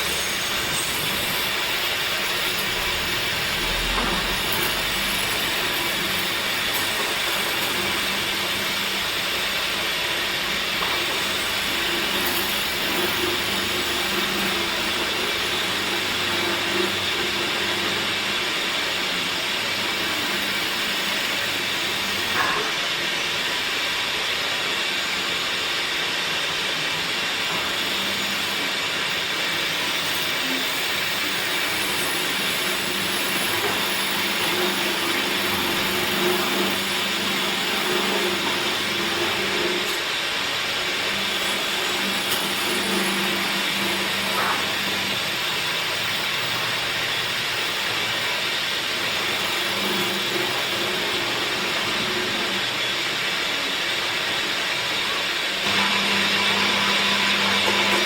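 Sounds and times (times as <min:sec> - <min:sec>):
woodworking machinery hissing: 0:00.0 - 0:58.0.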